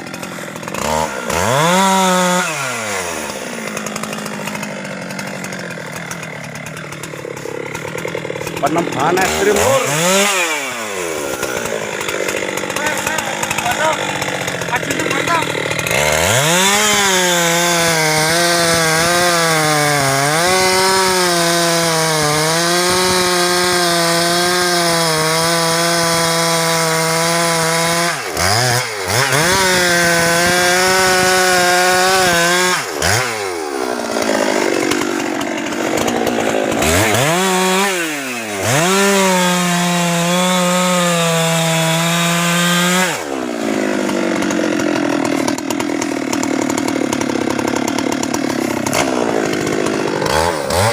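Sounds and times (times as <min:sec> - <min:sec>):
chainsaw sawing wood: 0:00.0 - 0:50.9.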